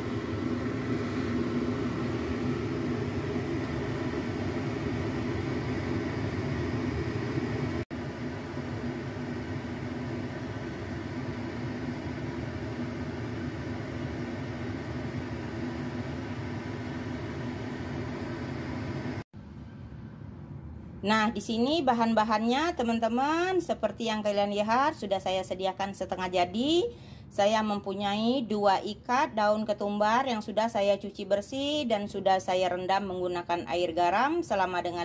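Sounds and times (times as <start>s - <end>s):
fan motor hum: 0.0s - 35.0s.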